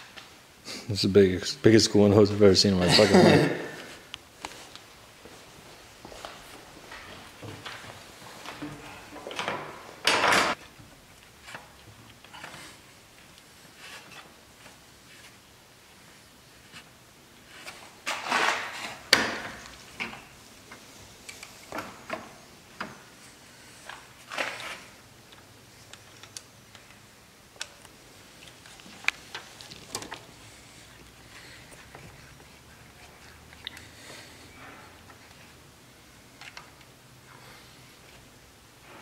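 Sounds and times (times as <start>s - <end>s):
rubber hoses rustling: 3.0s - 27.0s, 27.8s - 39.0s.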